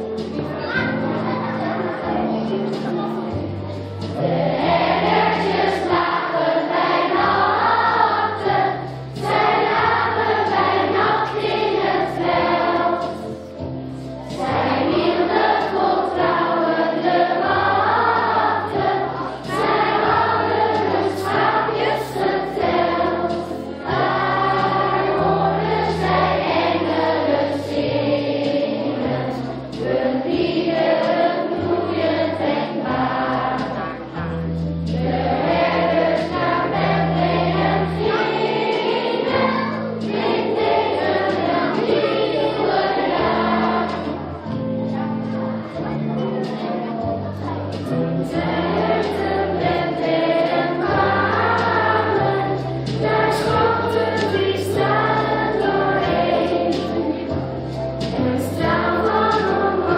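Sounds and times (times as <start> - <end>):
instrumental accompaniment: 0.0 - 59.9
group singing a song: 4.0 - 46.8, 47.4 - 59.9.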